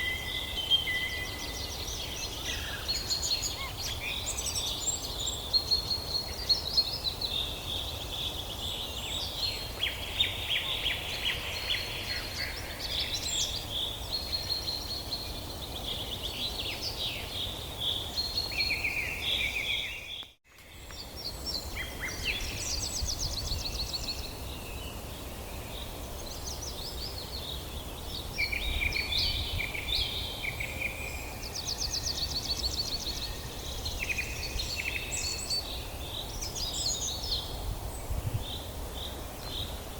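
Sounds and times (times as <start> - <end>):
songbirds singing and calling: 0.0 - 39.9.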